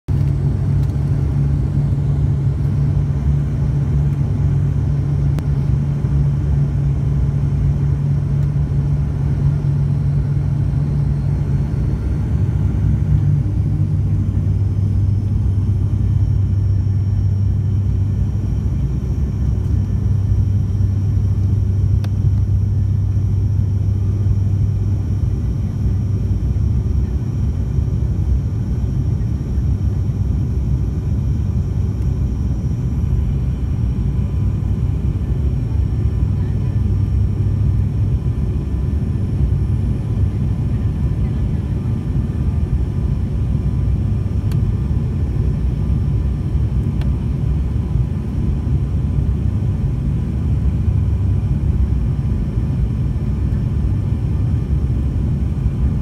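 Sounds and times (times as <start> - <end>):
airliner cabin engine drone: 0.1 - 56.0.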